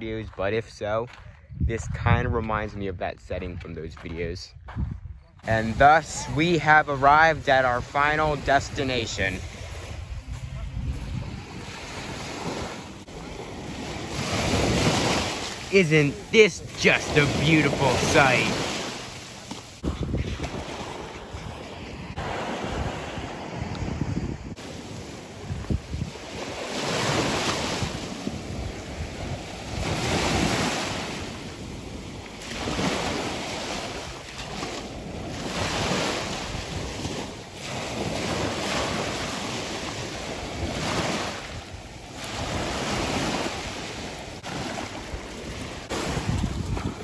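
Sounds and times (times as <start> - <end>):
wind buffeting microphone: 0.0 - 18.8, 19.6 - 47.0
small waves washing on sand: 5.4 - 47.0.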